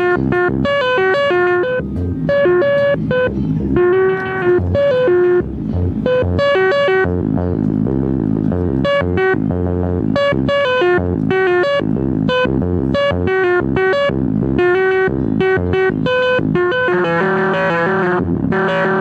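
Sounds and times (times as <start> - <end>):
synthesizer music: 0.0 - 19.0.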